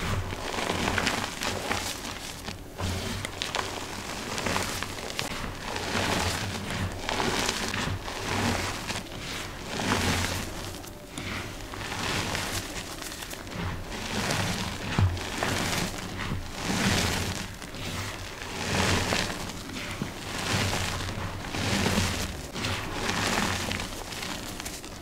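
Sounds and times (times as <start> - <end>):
hands crunching chalk powder: 0.0 - 25.0.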